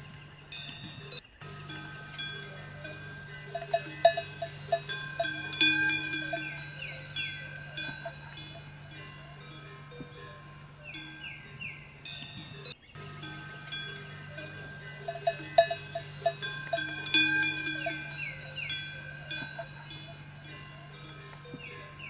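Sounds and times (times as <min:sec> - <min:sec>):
livestock bells clanking: 0:00.0 - 0:22.0.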